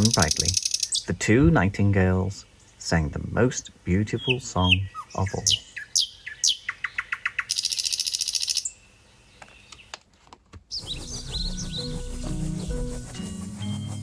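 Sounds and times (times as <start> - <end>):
nightingale chirps and trill: 0.0 - 1.7, 2.4 - 9.9, 10.7 - 14.0.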